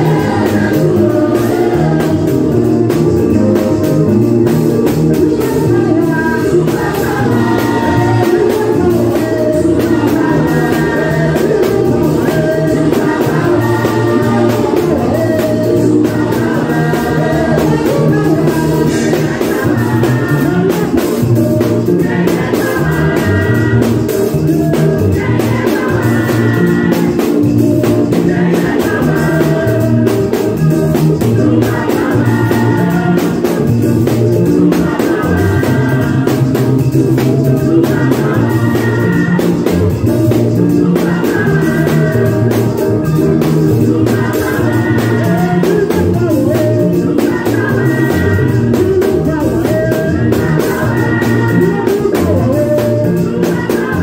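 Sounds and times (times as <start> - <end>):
bass line: 0.0 - 54.0
drum kit playing steady beat: 0.0 - 54.0
voices singing: 0.0 - 54.0.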